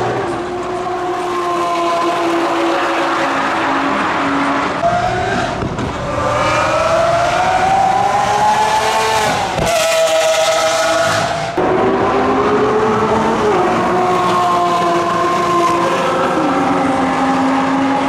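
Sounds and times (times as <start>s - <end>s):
race car engines speeding past: 0.0s - 18.0s.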